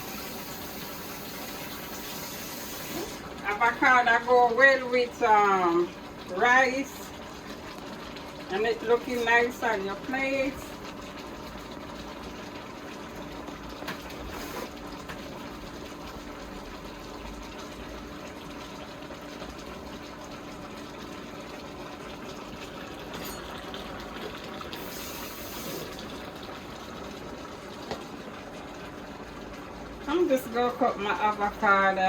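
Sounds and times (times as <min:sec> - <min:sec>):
water running: 0:00.0 - 0:32.0.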